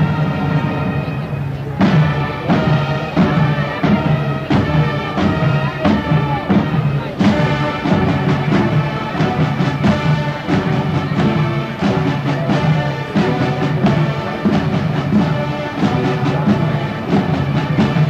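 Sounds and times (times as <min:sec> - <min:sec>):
heavy drum accents: 0:00.0 - 0:18.0
marching band brass and percussion: 0:00.0 - 0:18.0.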